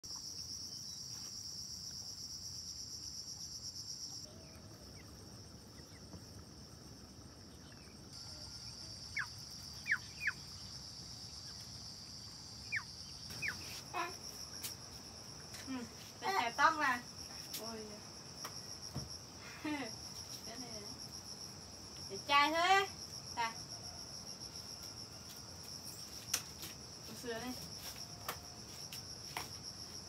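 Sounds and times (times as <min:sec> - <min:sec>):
insects trilling: 0:00.1 - 0:30.0.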